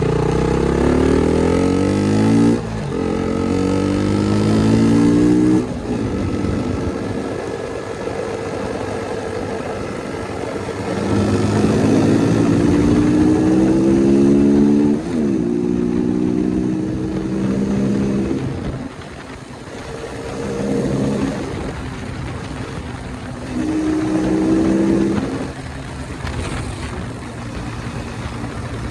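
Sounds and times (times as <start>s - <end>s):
motorcycle accelerating: 0.0s - 28.9s.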